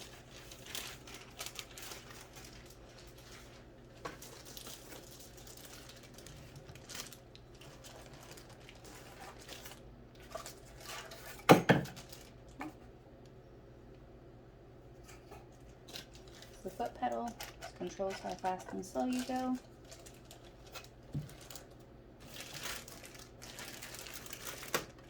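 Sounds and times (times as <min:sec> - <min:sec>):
rustling packaging: 0:00.0 - 0:12.9, 0:15.1 - 0:25.0.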